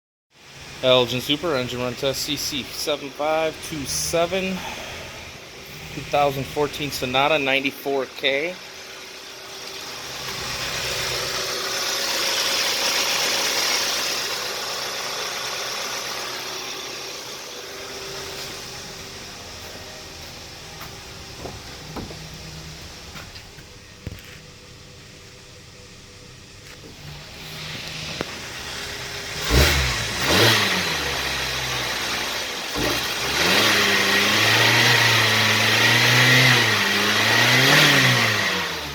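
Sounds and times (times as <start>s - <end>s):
car engine running: 0.4s - 38.9s.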